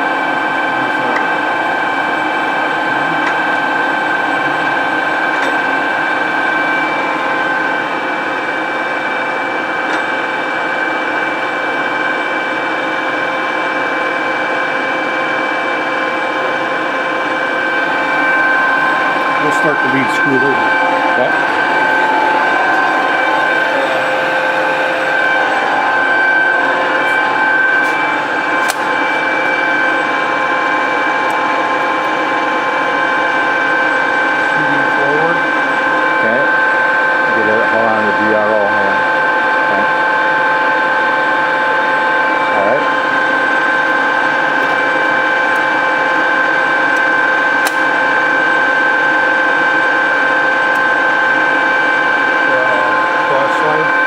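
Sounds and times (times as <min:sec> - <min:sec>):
lathe gearing whine: 0:00.0 - 0:54.0.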